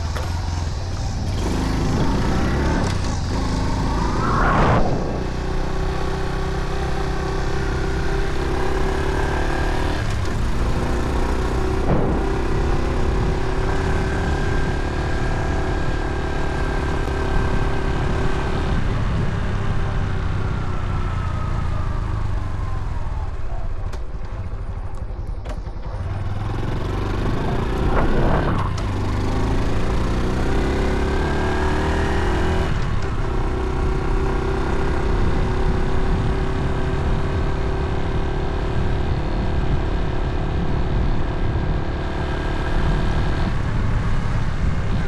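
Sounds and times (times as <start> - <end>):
wind rumble on microphone: 0.0 - 9.0, 10.0 - 21.0, 22.6 - 45.0
small motorcycle engine running: 0.0 - 45.0.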